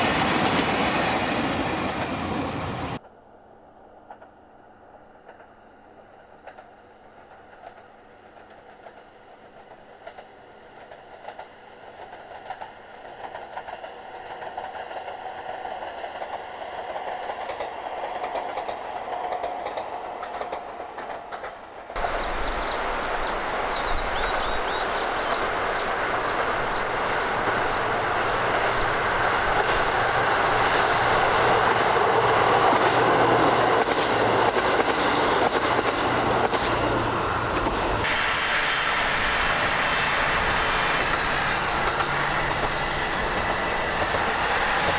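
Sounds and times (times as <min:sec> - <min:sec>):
train passing: 0:00.0 - 0:44.9.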